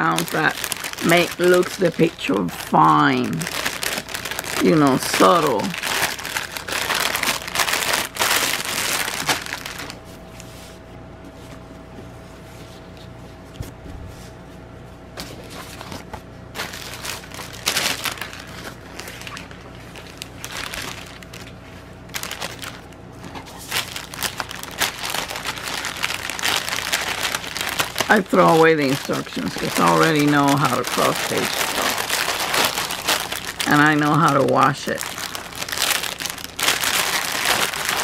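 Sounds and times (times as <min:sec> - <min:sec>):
plastic packaging crinkling: 0:00.0 - 0:10.5, 0:15.3 - 0:38.0.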